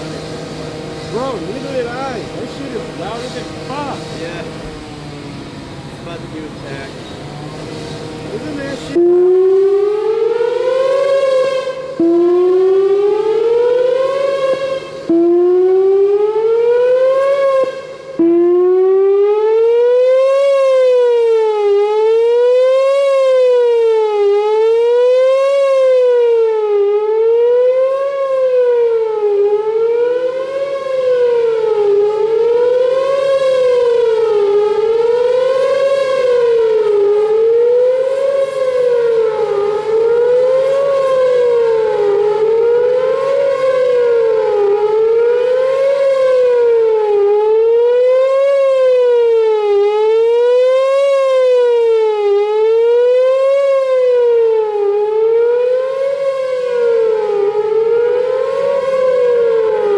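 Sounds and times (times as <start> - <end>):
electronic warning siren wailing: 0.0 - 59.9.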